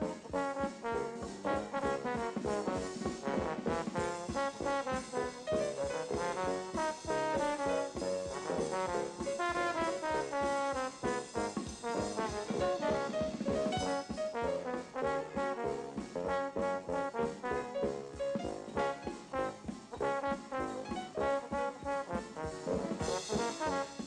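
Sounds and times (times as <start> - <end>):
jazzy brass music: 0.0 - 24.0.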